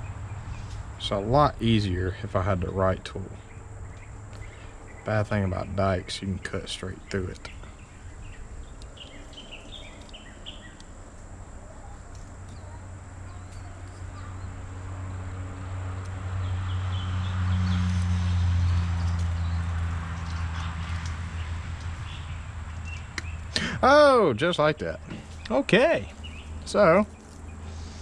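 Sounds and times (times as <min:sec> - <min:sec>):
birds chirping: 0:00.0 - 0:28.0
engine hum with road noise: 0:00.0 - 0:28.0.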